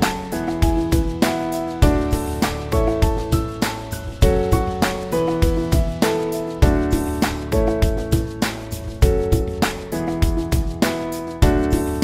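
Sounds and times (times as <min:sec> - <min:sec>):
instrumental music with plucked notes: 0:00.0 - 0:12.0.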